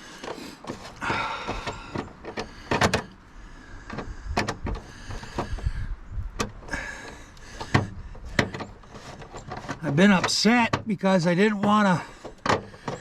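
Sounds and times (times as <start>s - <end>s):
sharp metallic clicks and knocks: 0.2s - 3.2s, 3.8s - 5.7s, 6.4s - 13.0s.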